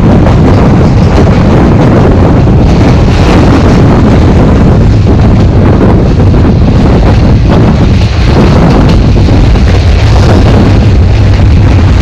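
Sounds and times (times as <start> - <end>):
train running on track: 0.0 - 12.0
wind buffeting microphone: 0.0 - 12.0.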